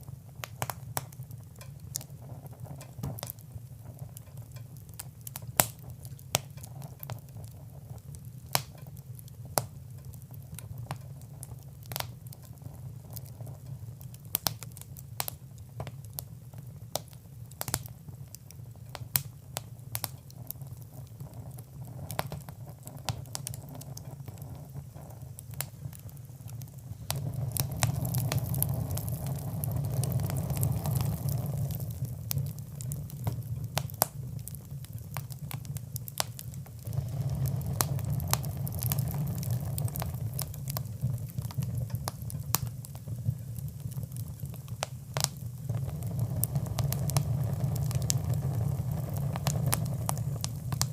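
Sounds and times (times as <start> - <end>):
low rumble of flame: 0.0 - 50.9
wood fire crackling: 0.0 - 50.9.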